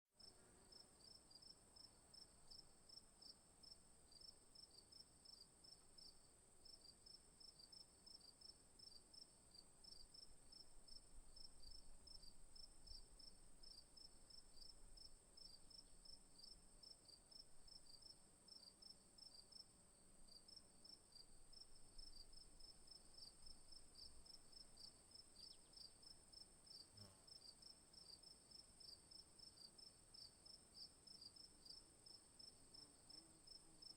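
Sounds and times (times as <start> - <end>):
crickets chirping: 0.2 - 33.9
insect buzz: 0.2 - 33.9.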